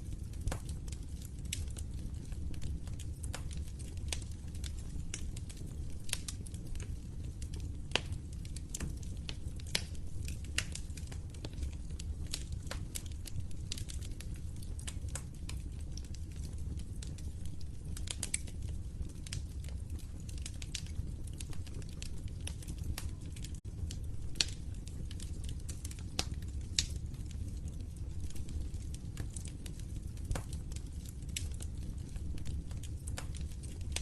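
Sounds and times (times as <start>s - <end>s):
wood fire crackling: 0.0s - 34.0s
sharp fire pops: 0.1s - 34.0s.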